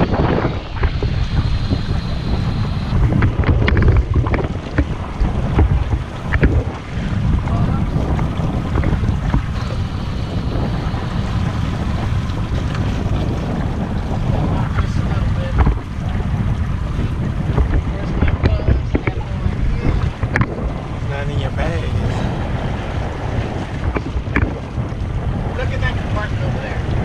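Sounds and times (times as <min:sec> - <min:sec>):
water slapping around boat: 0:00.0 - 0:27.0
wind buffeting microphone: 0:00.0 - 0:27.0.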